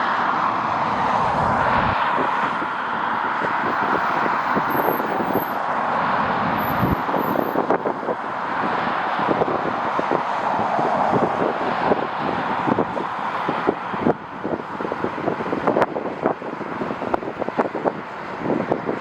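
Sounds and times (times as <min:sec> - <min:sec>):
wind buffeting microphone: 0:01.2 - 0:05.6, 0:06.3 - 0:19.0.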